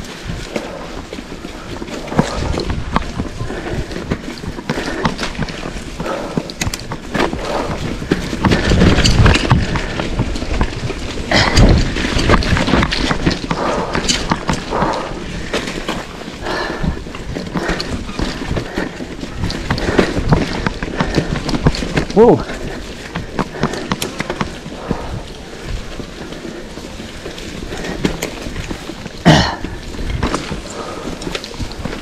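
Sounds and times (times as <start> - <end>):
bike rattling and knocking: 0.0 - 32.0
bike tyres on dirt trail: 0.0 - 32.0
wind buffeting microphone: 0.0 - 32.0.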